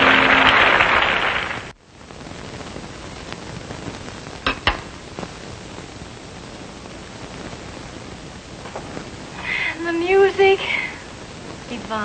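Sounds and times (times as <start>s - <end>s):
television soundtrack hiss: 0.0s - 12.0s.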